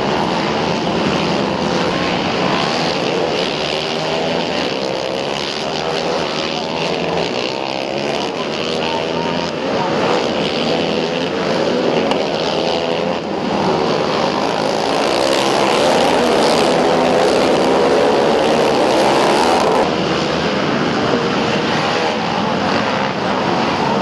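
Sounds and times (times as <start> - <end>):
quad engines revving: 0.0 - 24.0.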